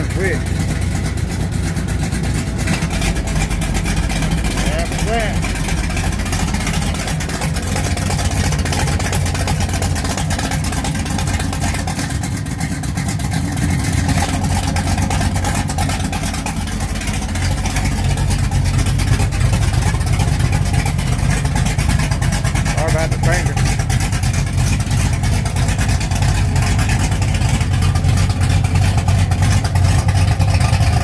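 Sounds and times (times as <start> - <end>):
car engine with loud exhaust: 0.0 - 31.0.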